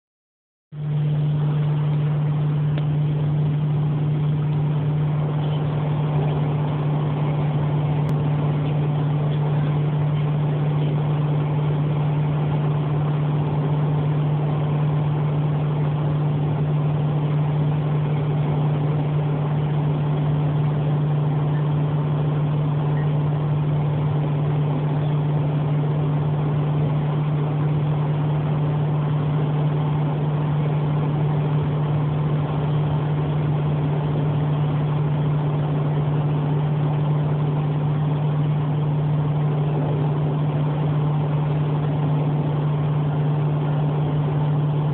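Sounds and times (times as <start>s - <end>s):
engine and road drone: 0.7s - 44.9s.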